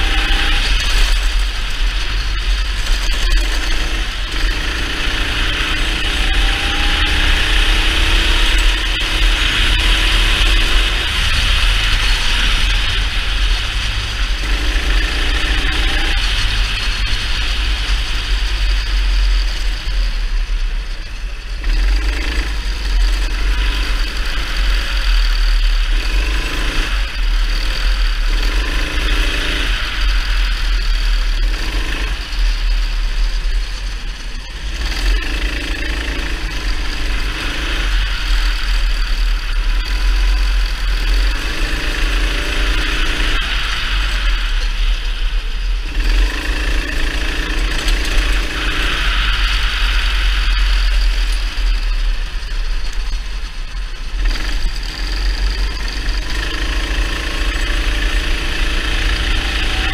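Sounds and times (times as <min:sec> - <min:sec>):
kart engine revving: 0:00.0 - 0:59.9
steady low rumble: 0:00.0 - 0:59.9.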